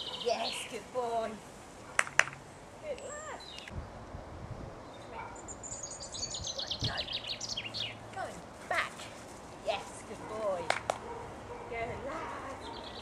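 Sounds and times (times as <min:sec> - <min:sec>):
small birds chirping: 0:00.0 - 0:01.3, 0:02.8 - 0:03.9, 0:04.8 - 0:13.0.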